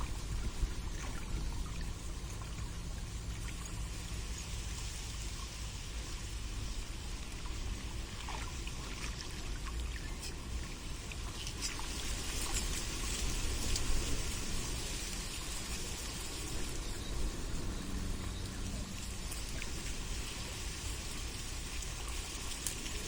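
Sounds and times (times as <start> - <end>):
water trickling and dripping: 0.0 - 23.0.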